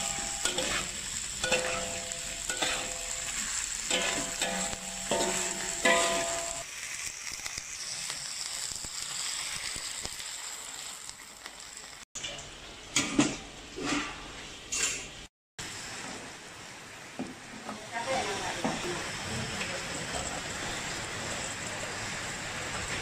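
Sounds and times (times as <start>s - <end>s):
meat sizzling in a wok: 0.0s - 12.1s, 15.6s - 23.0s.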